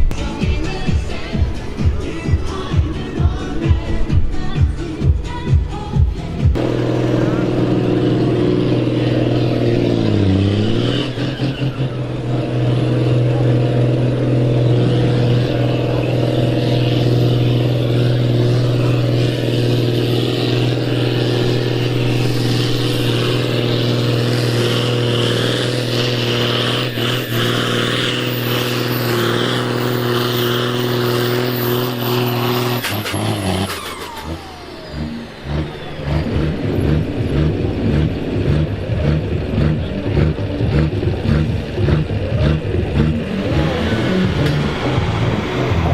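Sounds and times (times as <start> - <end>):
tractor diesel engine: 0.0 - 45.9.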